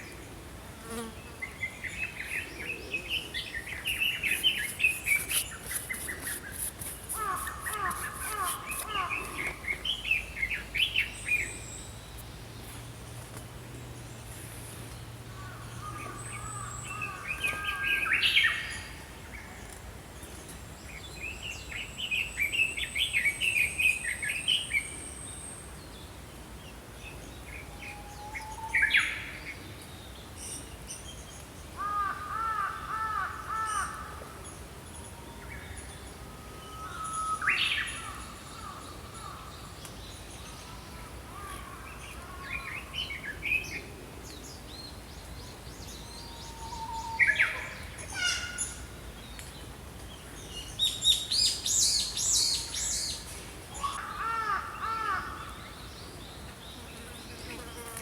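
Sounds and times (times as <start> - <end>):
faint outdoor hiss: 0.0 - 58.0
songbirds chirping and trilling: 0.0 - 58.0.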